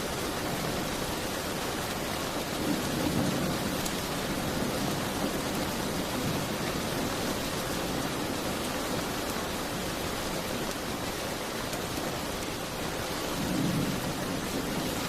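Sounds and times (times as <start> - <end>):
dense rain falling: 0.0 - 15.0.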